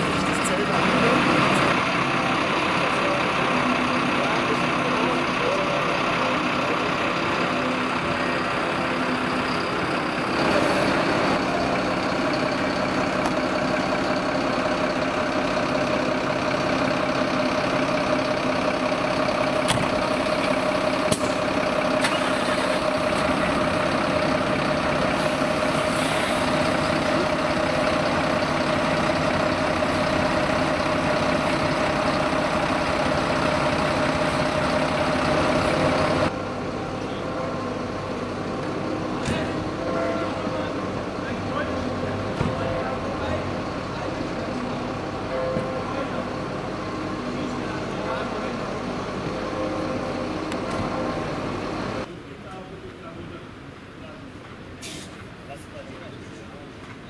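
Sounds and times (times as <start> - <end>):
diesel engines idling: 0.0 - 57.0.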